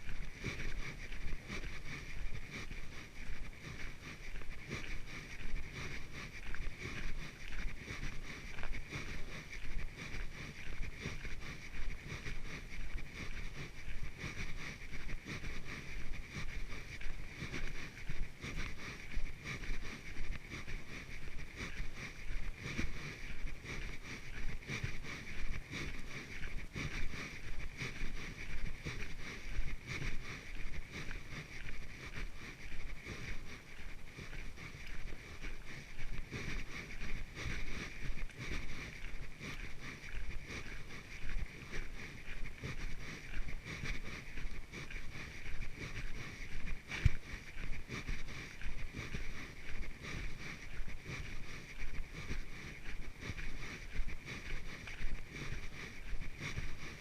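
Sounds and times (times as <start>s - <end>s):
footsteps on a trail: 0.0s - 57.0s.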